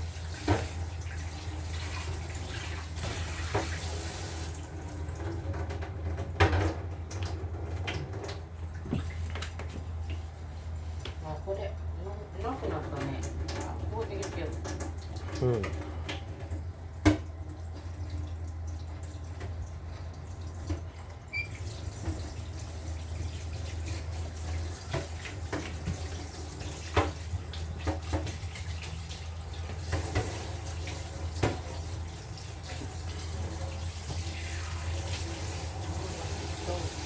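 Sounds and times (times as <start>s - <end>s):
tap running into a sink: 0.3s - 10.3s, 13.0s - 19.6s, 20.6s - 37.0s.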